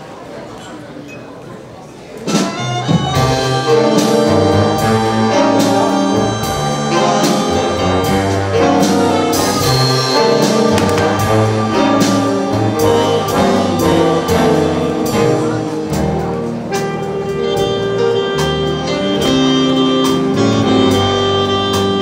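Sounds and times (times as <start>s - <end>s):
jazz big band playing a ballad: 2.2s - 22.0s.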